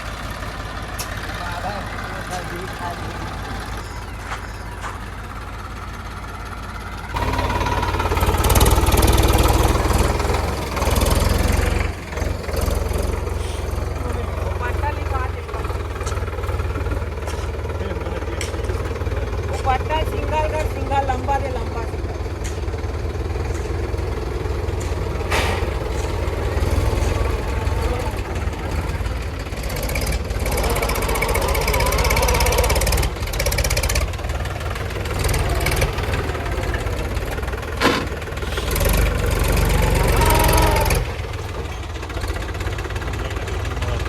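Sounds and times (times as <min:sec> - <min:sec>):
backhoe diesel engine running: 0:00.0 - 0:44.0.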